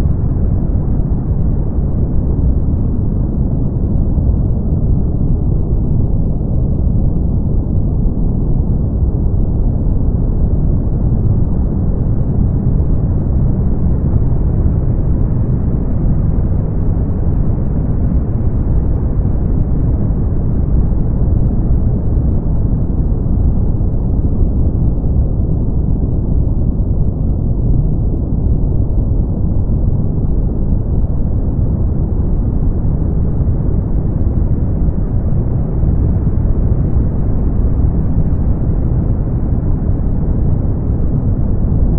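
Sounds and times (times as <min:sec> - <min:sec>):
brown noise rumble: 0:00.0 - 0:41.9.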